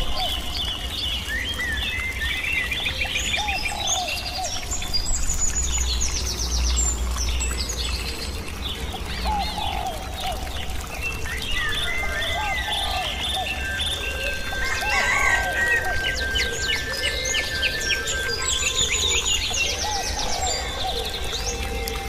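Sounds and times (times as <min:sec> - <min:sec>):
songbirds chirping and singing: 0:00.0 - 0:22.0.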